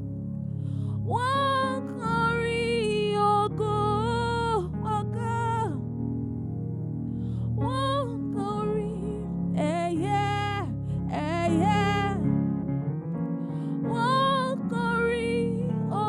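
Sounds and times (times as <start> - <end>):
sustained keyboard chords: 0.0 - 16.0.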